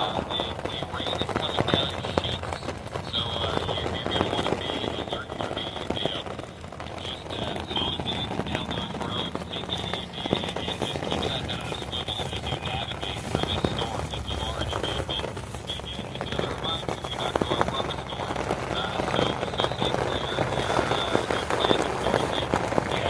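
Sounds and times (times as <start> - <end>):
rain pattering on tent: 0.0 - 23.0.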